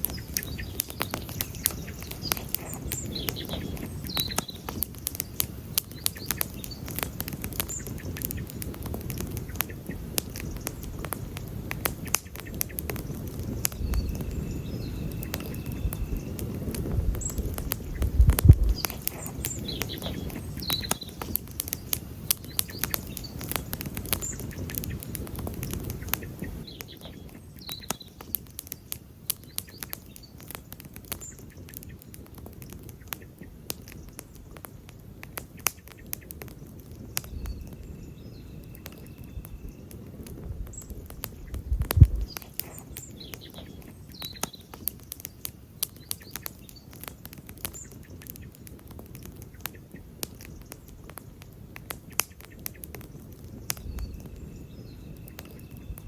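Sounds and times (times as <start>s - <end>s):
birds chirping: 0.0s - 56.0s
campfire crackling: 0.0s - 56.0s.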